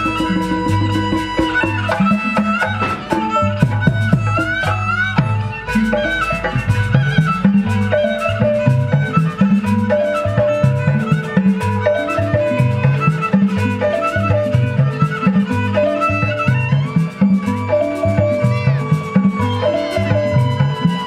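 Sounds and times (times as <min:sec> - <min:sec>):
hand drums beating: 0:00.0 - 0:21.0
high sustained melody: 0:00.0 - 0:21.0.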